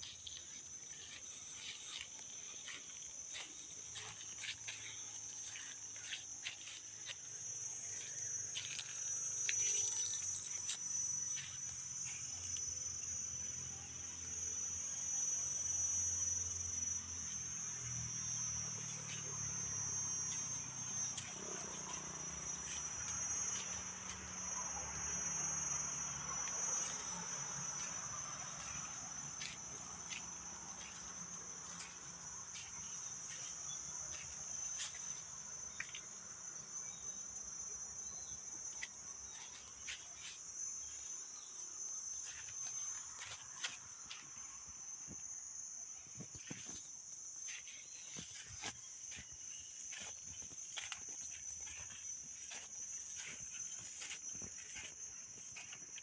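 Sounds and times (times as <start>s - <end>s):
insects chirping chorus: 0.0s - 56.0s.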